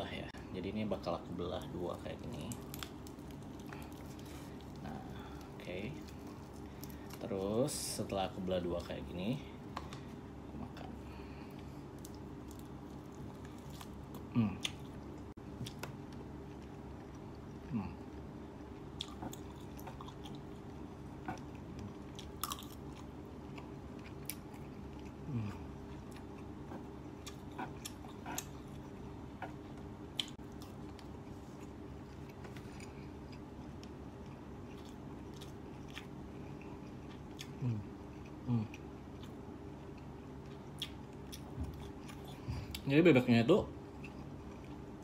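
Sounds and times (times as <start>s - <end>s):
low room hum: 0.0s - 45.0s
person chewing food: 1.9s - 9.0s, 9.6s - 42.9s, 43.8s - 45.0s.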